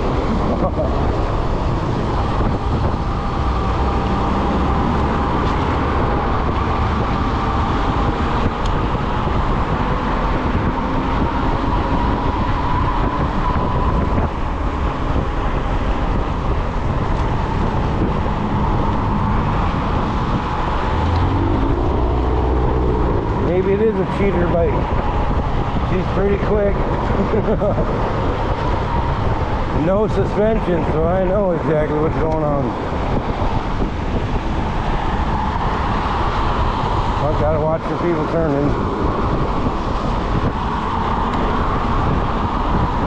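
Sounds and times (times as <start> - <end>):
tire and wind noise: 0.0 - 43.0.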